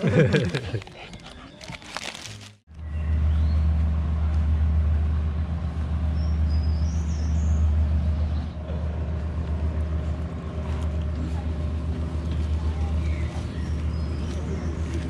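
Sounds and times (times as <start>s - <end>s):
large engine droning: 2.7s - 15.0s.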